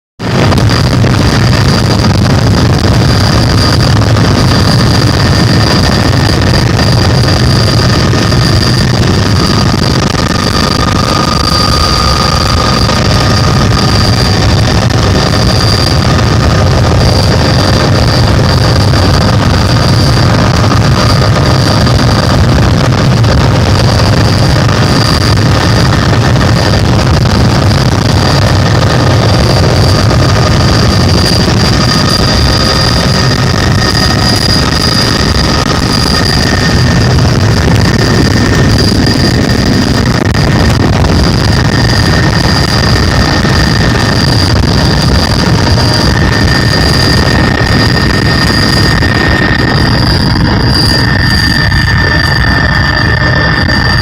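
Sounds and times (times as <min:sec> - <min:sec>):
helicopter rumbling: 0:00.2 - 0:54.0
high whine: 0:00.2 - 0:54.0.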